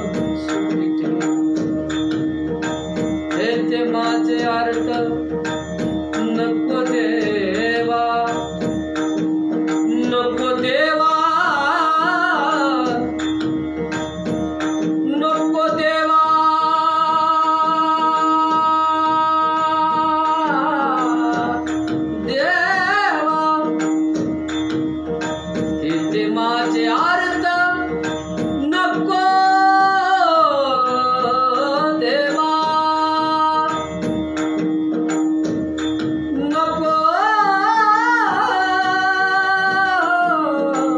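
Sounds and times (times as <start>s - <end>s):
man singing with vibrato: 0.0s - 1.9s, 3.2s - 13.9s, 15.0s - 24.2s, 25.7s - 34.5s, 36.3s - 40.9s.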